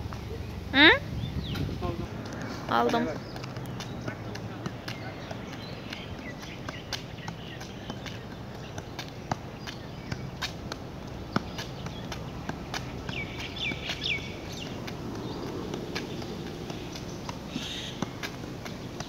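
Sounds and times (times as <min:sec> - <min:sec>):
ball tapping off foot: 0:01.5 - 0:19.0.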